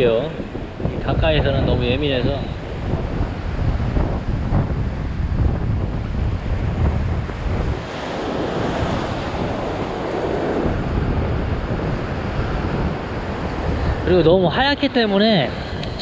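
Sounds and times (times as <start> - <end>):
surf foaming around rocks: 0.0 - 16.0
wind buffeting microphone: 0.0 - 16.0.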